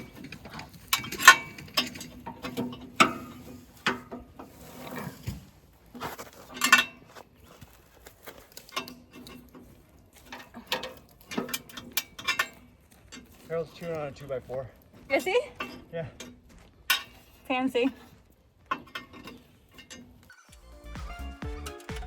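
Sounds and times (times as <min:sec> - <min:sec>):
hand tools clanking on metal: 0:00.0 - 0:05.4, 0:06.0 - 0:20.4, 0:21.4 - 0:22.0.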